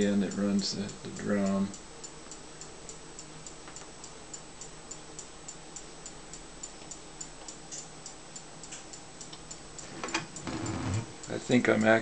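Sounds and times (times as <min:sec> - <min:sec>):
faint low hum: 0:00.0 - 0:12.0
light ticking: 0:00.0 - 0:12.0.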